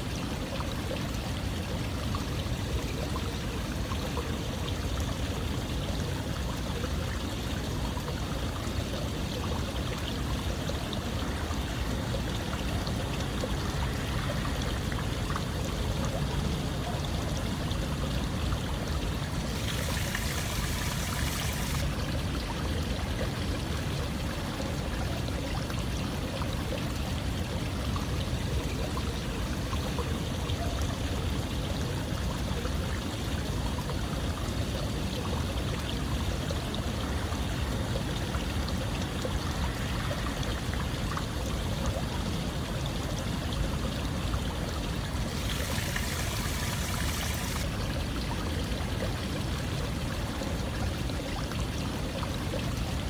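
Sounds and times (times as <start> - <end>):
running water: 0.0 - 53.0.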